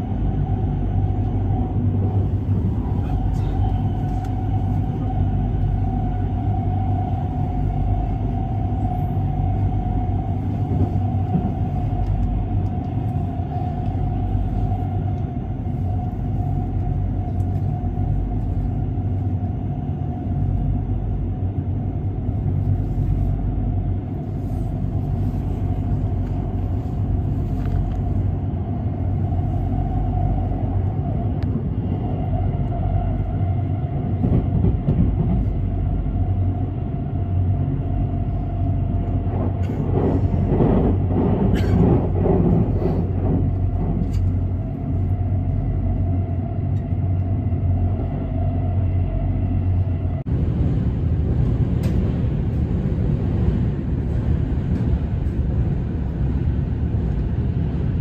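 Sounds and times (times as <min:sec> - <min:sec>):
steady train whine: 0:00.0 - 0:58.0
train rumble: 0:00.0 - 0:58.0.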